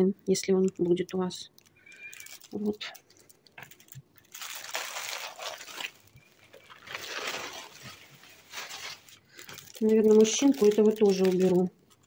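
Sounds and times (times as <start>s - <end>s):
plastic packaging crinkling: 0.4s - 12.0s.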